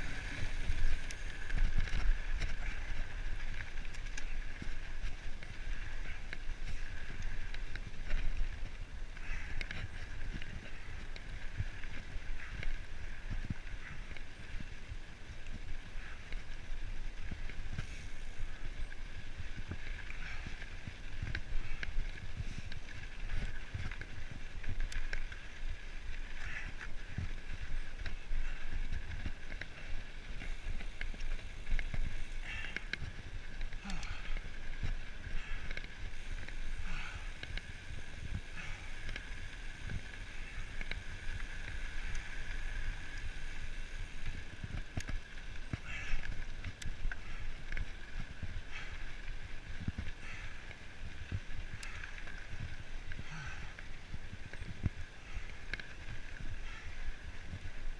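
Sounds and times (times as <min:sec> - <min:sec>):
bike rattling over bumps: 0:00.0 - 0:57.9
bike tyres crunching over gravel: 0:00.0 - 0:57.9.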